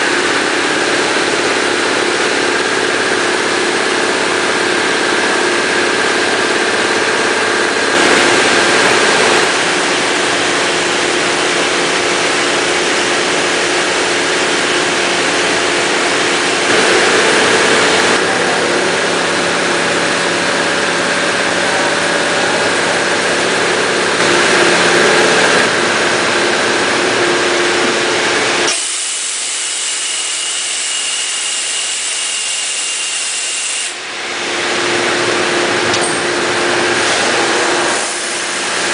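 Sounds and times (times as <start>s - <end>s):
parts washing machine hissing: 6.9s - 38.9s.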